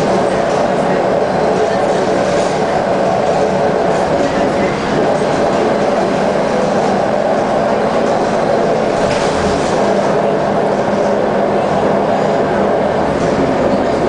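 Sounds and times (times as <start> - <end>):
bus diesel engine droning: 0.0 - 14.0
road and tyre rumble: 0.0 - 14.0.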